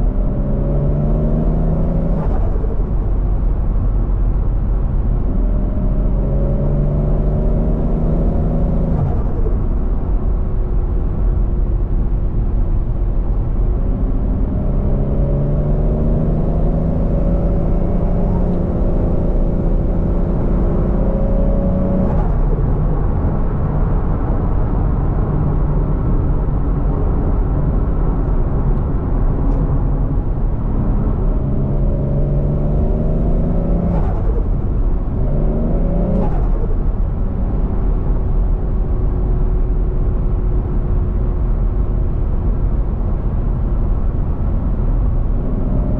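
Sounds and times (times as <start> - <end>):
car engine accelerating: 0.0 - 45.9.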